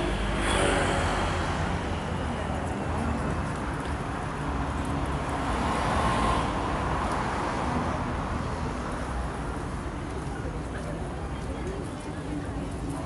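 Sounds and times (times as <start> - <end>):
rumble of cars: 0.0 - 13.0.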